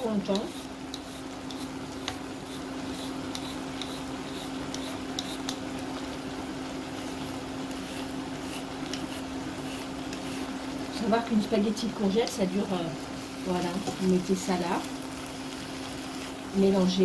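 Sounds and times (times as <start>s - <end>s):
induction hob hum: 0.0s - 17.0s
sauce bubbling in a pan: 0.2s - 11.0s, 12.0s - 16.9s.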